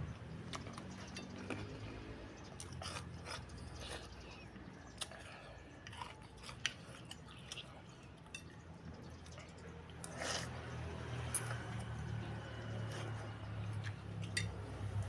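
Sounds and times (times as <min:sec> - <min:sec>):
close chewing of food: 0:00.3 - 0:14.4.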